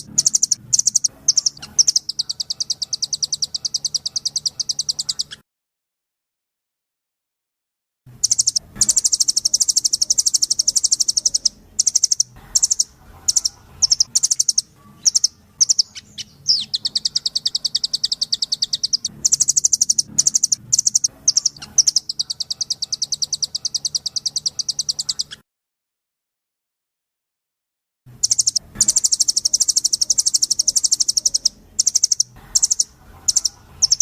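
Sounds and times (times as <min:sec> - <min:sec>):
bird chattering trills: 0:00.0 - 0:05.4, 0:08.2 - 0:25.4, 0:28.2 - 0:34.0.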